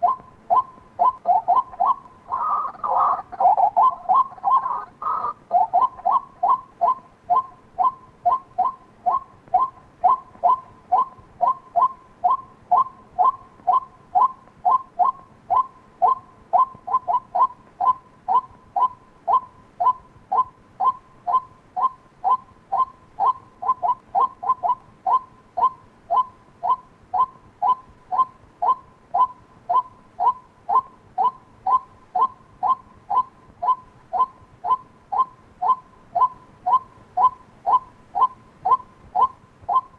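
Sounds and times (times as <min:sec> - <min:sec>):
waterhen calling short sharp notes: 0:00.0 - 0:39.9.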